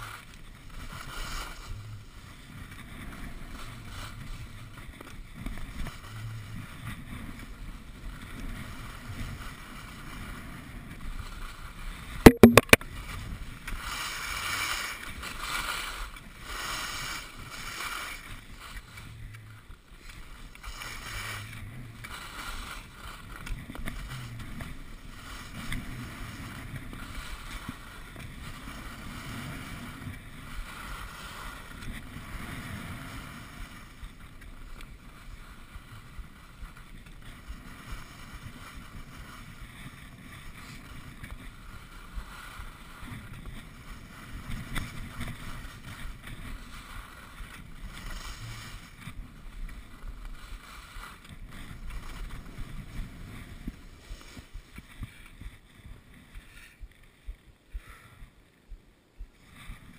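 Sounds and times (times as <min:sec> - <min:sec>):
skis scraping on snow: 0:00.0 - 0:12.2, 0:12.9 - 0:58.6, 0:59.4 - 0:59.9.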